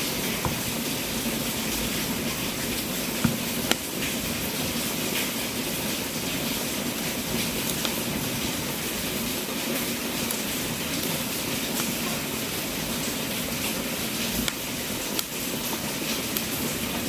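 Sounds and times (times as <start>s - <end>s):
fire crackles and pops: 0.0s - 16.9s
wood fire hissing: 0.0s - 17.0s.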